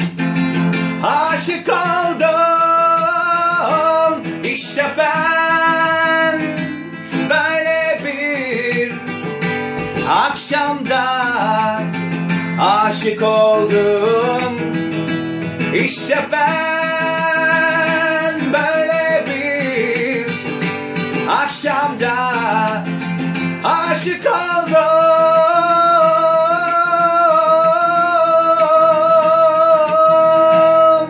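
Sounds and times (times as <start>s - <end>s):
strummed acoustic guitar: 0.0s - 31.0s
man singing: 0.7s - 31.0s.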